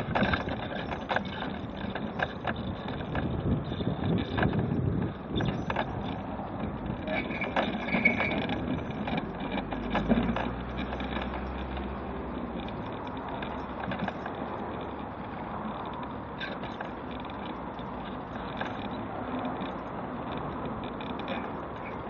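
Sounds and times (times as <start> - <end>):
mobility scooter running: 0.0 - 22.0
road traffic: 0.0 - 22.0
small clicks and rattles: 0.0 - 22.0.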